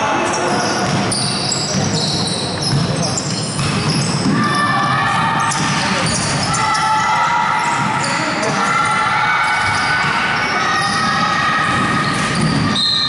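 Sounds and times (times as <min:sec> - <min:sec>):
players' voices echoing: 0:00.0 - 0:12.8.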